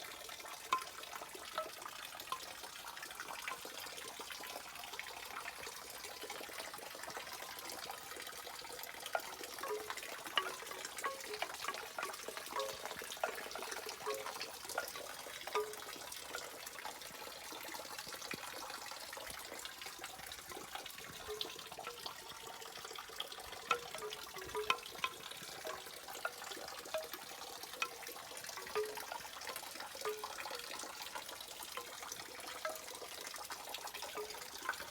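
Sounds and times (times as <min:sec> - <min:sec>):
raindrops tapping on leaves: 0:00.0 - 0:34.9.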